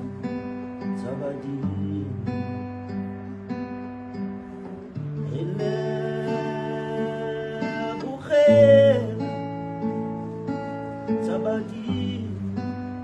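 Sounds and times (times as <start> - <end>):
guitar chords ringing: 0.0 - 13.0.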